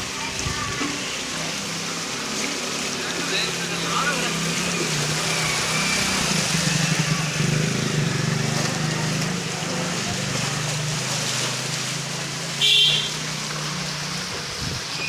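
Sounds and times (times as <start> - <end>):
low engine hum: 0.0 - 15.0
water splashing: 0.0 - 15.0.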